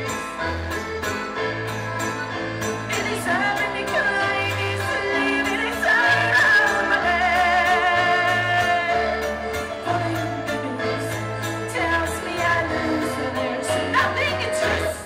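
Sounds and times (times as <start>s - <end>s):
bass line: 0.0s - 15.0s
woman singing: 2.9s - 15.0s.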